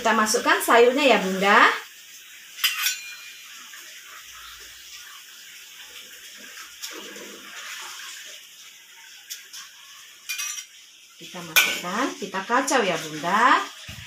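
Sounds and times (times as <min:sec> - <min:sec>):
water boiling in a wok: 0:00.0 - 0:14.0.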